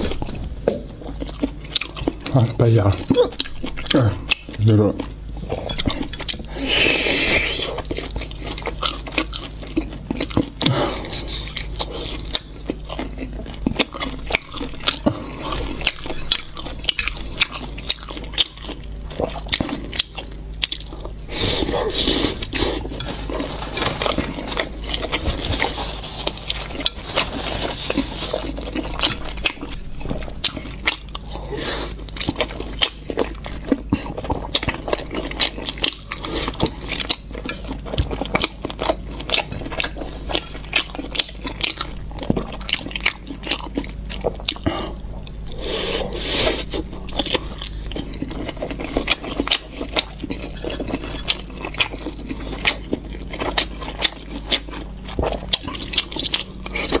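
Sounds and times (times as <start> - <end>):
chewing with wet mouth clicks: 0.0 - 6.7, 7.5 - 25.3, 27.9 - 57.0.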